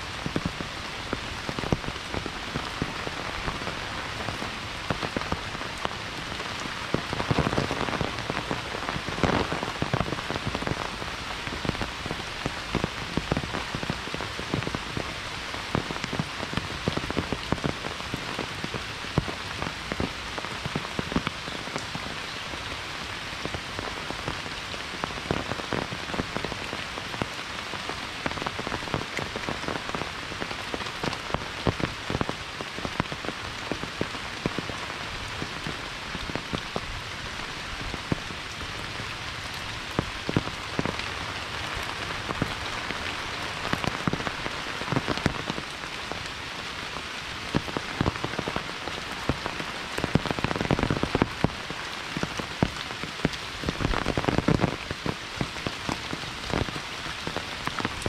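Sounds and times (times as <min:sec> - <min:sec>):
close raindrops tapping: 0:00.0 - 0:58.0
steady rain falling: 0:00.0 - 0:58.0.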